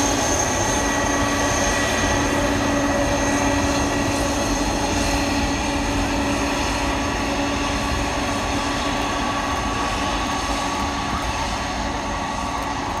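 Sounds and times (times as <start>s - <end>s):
jet engines roaring with whine: 0.0s - 13.0s.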